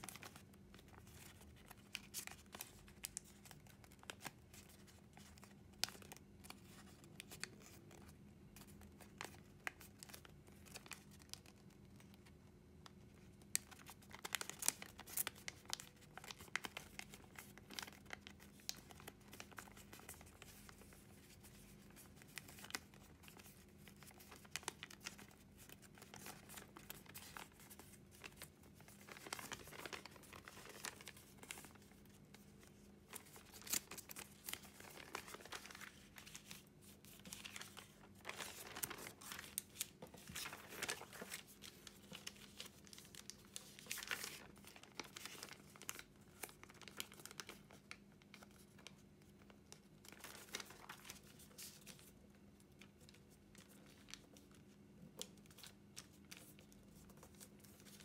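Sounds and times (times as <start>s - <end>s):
paper crinkling and rustling: 0.0s - 58.0s.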